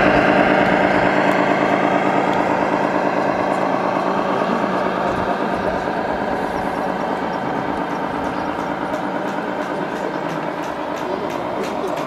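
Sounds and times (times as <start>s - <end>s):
model truck engine drone: 0.0s - 12.0s.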